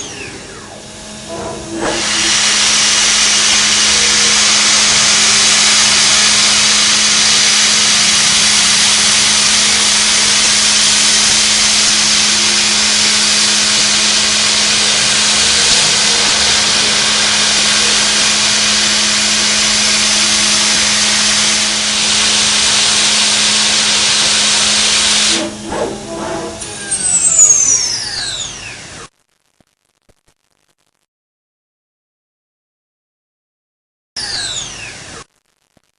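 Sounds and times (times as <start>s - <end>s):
spindle whine winding down: 0.0s - 28.9s
milling machine hiss and hum: 0.0s - 29.1s.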